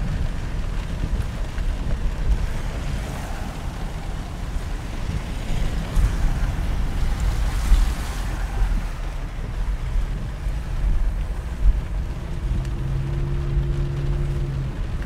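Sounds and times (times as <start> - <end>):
heavy rain on street: 0.0 - 15.0
wind rumbling on microphone: 0.0 - 15.0.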